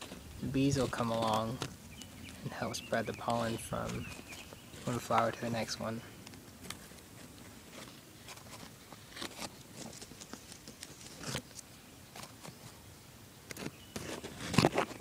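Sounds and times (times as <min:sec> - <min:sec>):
leaves rustling against device: 0:00.0 - 0:15.0.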